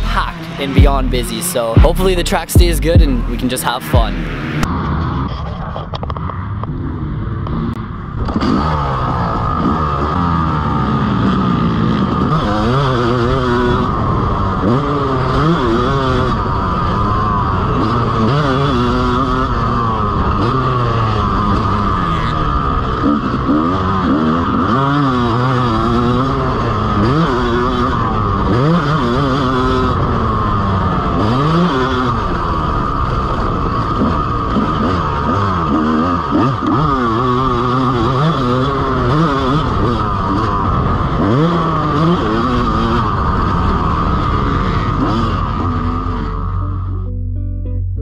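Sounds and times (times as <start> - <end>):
dirt bike engine revving: 0.0 - 5.4, 6.2 - 47.1.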